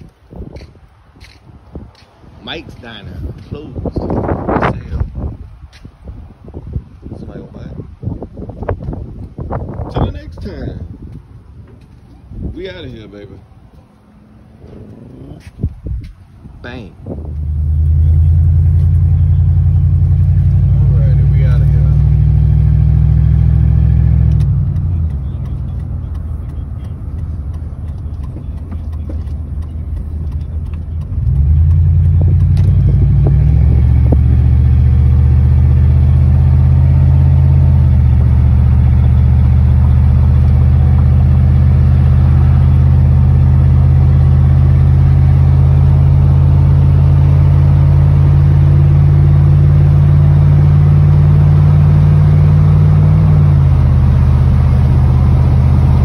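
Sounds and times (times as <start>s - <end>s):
pickup engine and exhaust rumble: 0.0s - 56.0s.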